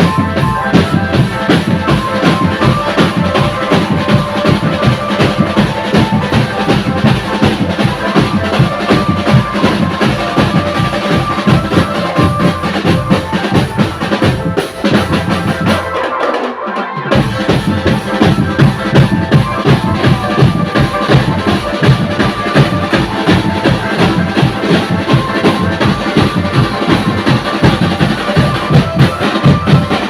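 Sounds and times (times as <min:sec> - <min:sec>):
drum band bass drum and snare: 0:00.0 - 0:30.0.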